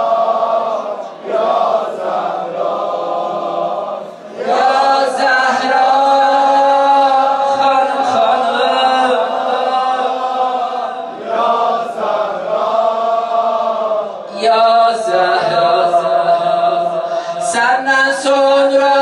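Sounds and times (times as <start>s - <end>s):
person chanting a lament: 0.0s - 19.0s.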